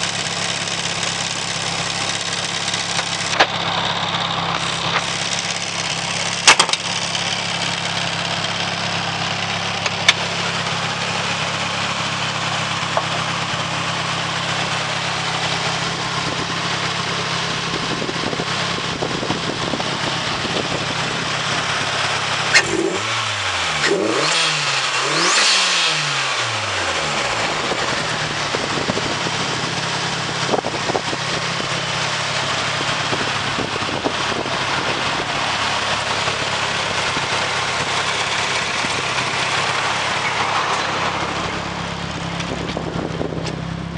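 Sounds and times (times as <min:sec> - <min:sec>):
car engine idling: 0:00.0 - 0:43.9
engine revving: 0:00.0 - 0:43.9.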